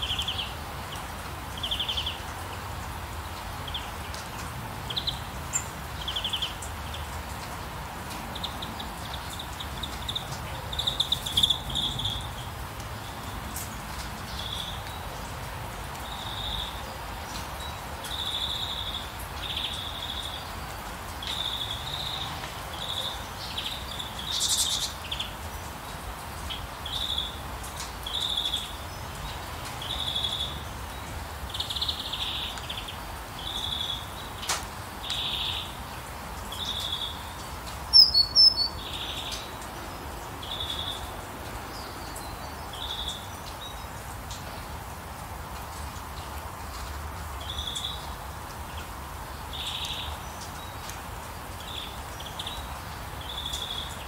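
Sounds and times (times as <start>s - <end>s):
songbird chirping: 0.0s - 15.2s, 15.9s - 44.6s, 46.2s - 54.0s
steady rain: 0.0s - 54.0s.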